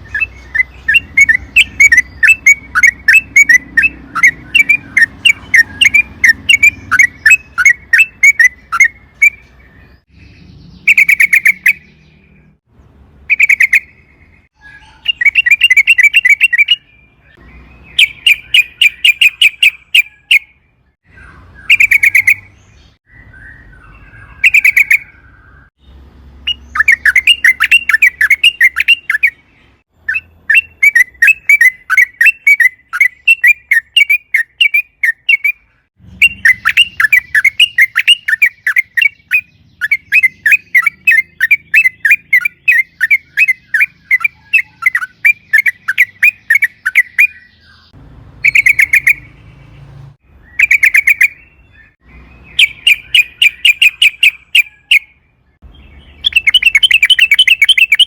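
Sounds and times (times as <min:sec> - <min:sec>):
bird singing chattering notes: 0:00.0 - 0:12.7, 0:13.3 - 0:58.0.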